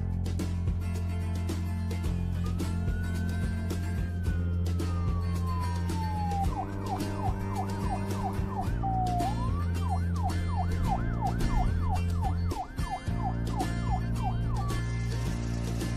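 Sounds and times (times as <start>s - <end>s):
background music with beat: 0.0s - 15.9s
emergency siren yelping: 2.4s - 15.9s.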